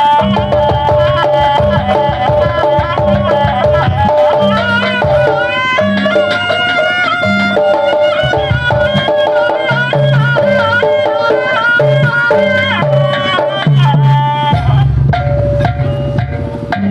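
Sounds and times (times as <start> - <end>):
hand drum strokes: 0.0 - 16.9
wavering bending melody: 0.0 - 16.9.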